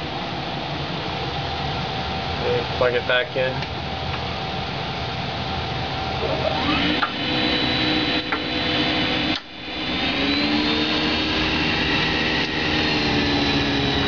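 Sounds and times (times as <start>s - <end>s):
water heater fan whirring: 0.0s - 14.0s.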